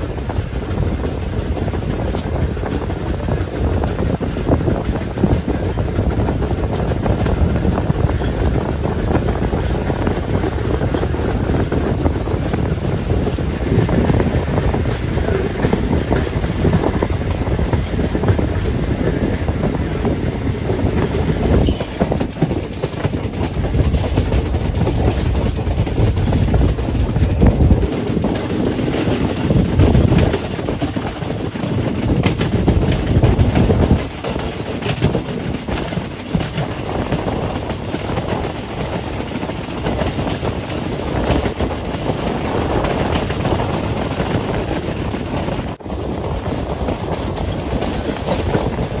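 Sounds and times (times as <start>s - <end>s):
train wheels clattering over rails: 0.0s - 49.0s.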